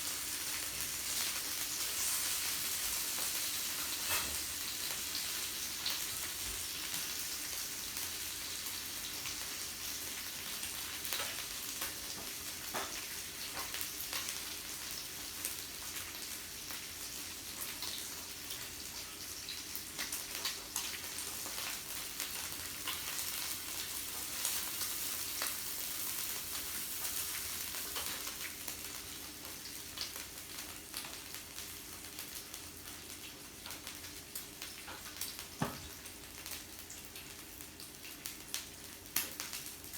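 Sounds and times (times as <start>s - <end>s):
meat sizzling on a grill: 0.0s - 39.9s.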